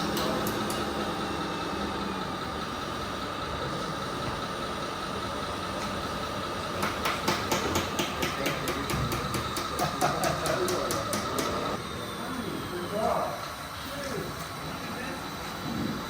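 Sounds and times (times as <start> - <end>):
mechanical hum with thin whine: 0.0 - 16.0.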